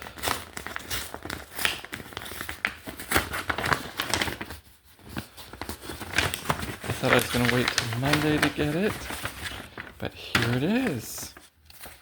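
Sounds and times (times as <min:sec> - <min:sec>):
package wrapping crinkling and tearing: 0:00.0 - 0:12.0.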